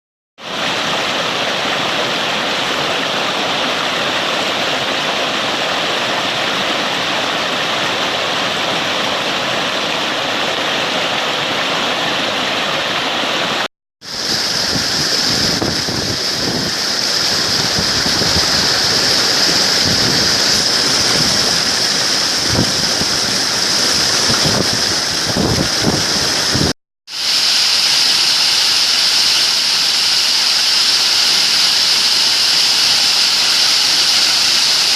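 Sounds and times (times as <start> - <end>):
waterfall rushing: 0.4 - 34.9.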